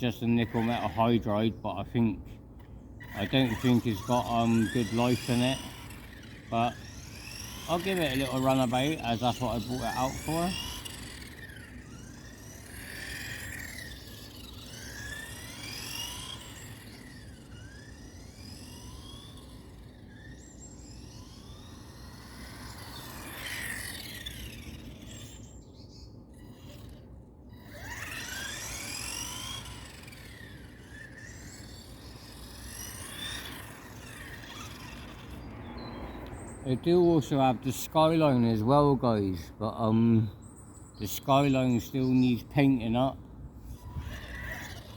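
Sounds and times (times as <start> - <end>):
rc car electric motor whining: 0.0 - 44.9.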